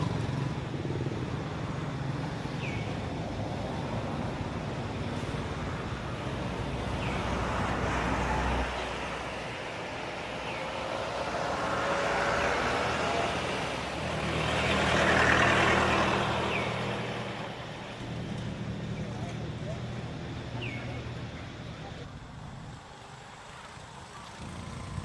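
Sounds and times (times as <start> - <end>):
low engine hum: 0.0 - 25.0
vehicles driving past: 0.0 - 25.0.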